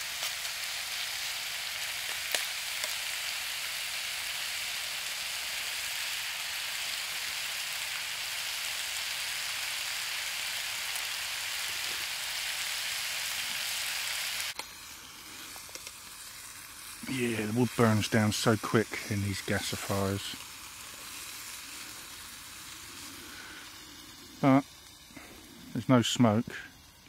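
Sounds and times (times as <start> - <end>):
chicken sizzling in a frying pan: 0.0 - 27.0.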